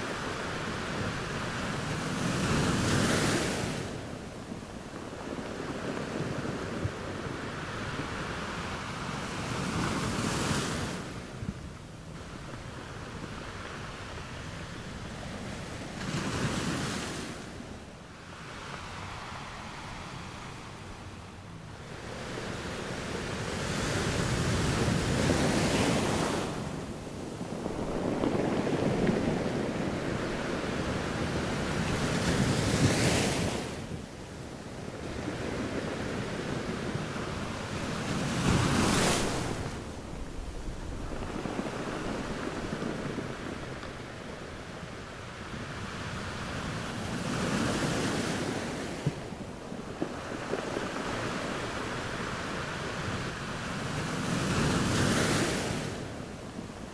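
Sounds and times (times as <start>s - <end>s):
small waves breaking on beach: 0.0s - 56.9s.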